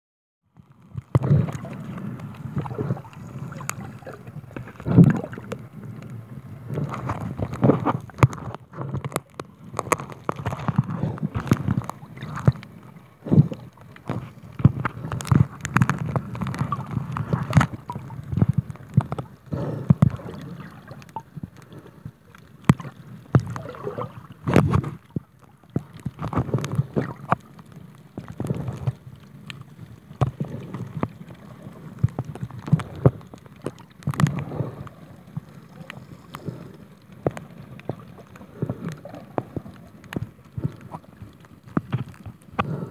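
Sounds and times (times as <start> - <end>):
underwater sloshing and gurgling: 0.5 - 42.9.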